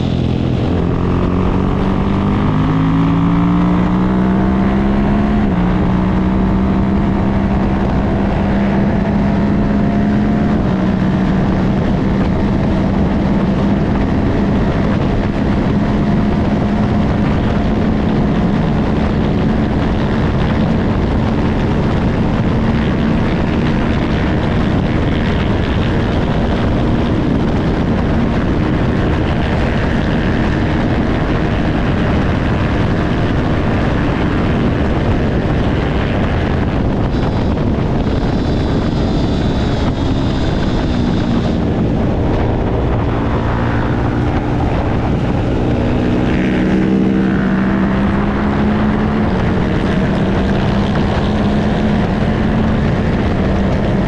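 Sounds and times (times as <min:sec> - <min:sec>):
racing motorcycle engine: 0:00.0 - 0:54.0
wind and road rush: 0:00.0 - 0:54.0.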